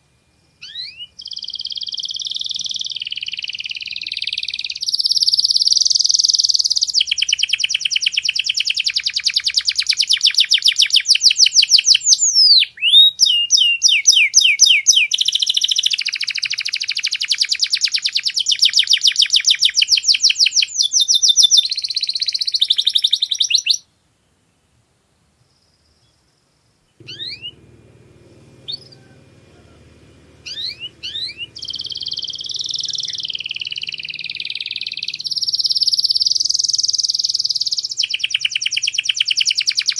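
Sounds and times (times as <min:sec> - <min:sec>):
canary singing trills: 0:00.0 - 0:23.8, 0:26.9 - 0:39.9
rising bird chirps: 0:00.0 - 0:23.8, 0:26.9 - 0:39.9
faint low hum: 0:00.0 - 0:39.9.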